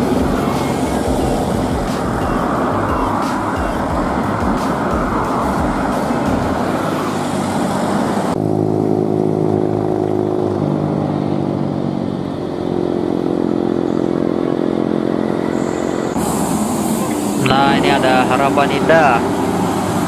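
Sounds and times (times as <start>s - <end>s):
bus and vehicles rushing past: 0.0s - 20.0s
motor vehicle engine drone: 0.0s - 20.0s.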